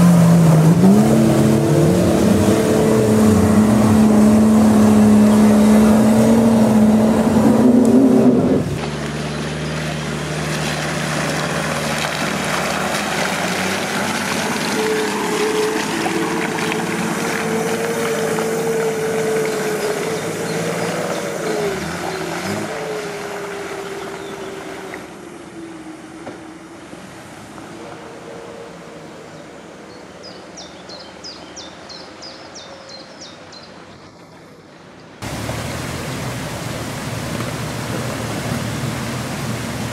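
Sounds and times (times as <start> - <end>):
off-road vehicle engine in mud: 0.0 - 39.9.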